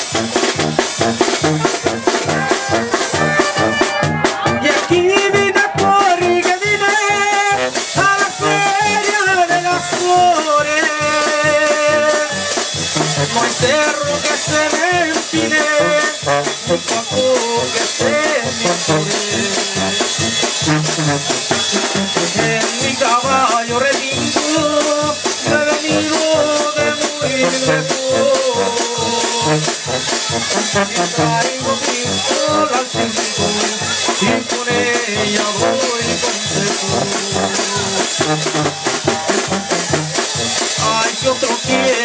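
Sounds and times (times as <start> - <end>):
bass drum and cymbal beat: 0.0 - 42.0
brass melody: 0.0 - 42.0
sousaphone bass line: 0.0 - 42.0.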